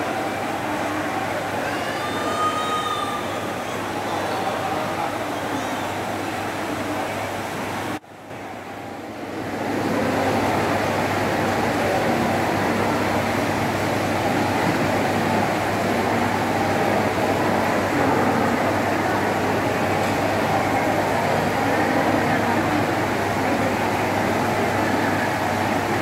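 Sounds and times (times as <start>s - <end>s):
crowd murmur: 0.0s - 26.0s
ventilation hum: 0.0s - 26.0s.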